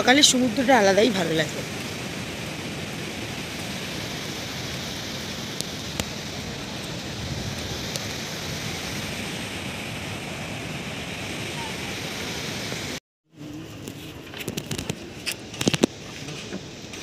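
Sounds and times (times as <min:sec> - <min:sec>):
wind on microphone: 0:01.3 - 0:16.1.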